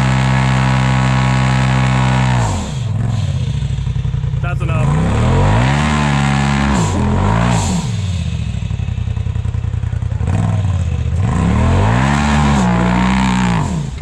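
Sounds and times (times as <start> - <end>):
utility vehicle engine revving: 0.0 - 14.0.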